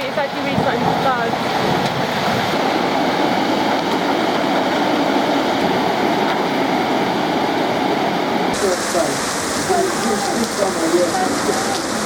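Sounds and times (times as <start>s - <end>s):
torrential rain pouring: 0.0s - 12.0s.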